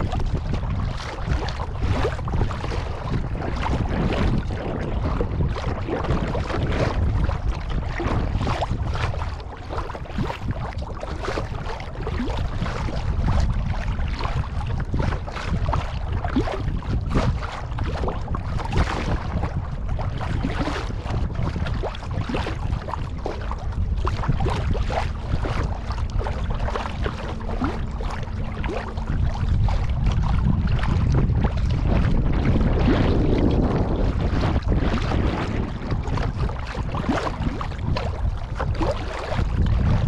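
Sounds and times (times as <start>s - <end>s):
water splashing around kayak: 0.0s - 40.0s
wind rumbling on microphone: 0.0s - 40.0s.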